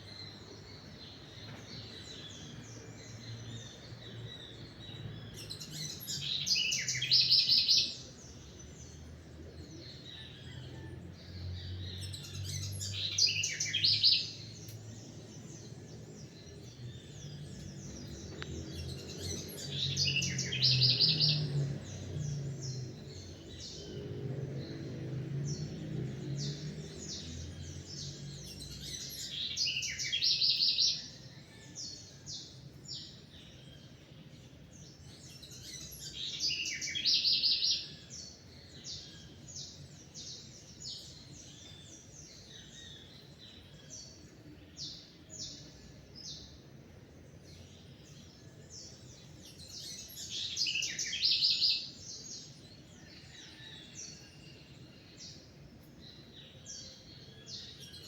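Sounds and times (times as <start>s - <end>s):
rapidly repeated bird song: 0.0s - 58.0s
songbirds chirping: 0.0s - 58.0s.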